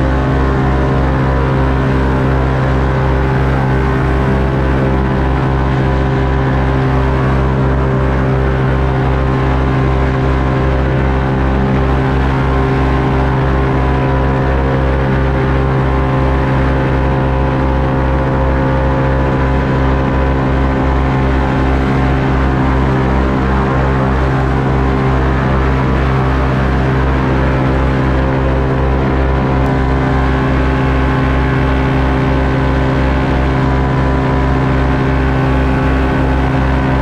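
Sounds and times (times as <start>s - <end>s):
airboat engine and propeller: 0.0s - 37.0s
low regular pulsing: 0.0s - 37.0s.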